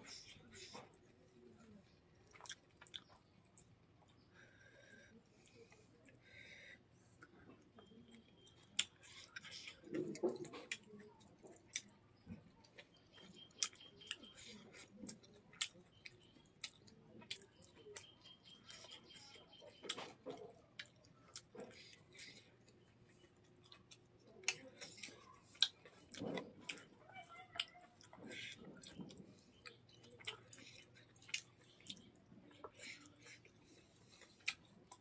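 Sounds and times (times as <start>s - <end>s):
soft chewing: 0.0s - 35.0s.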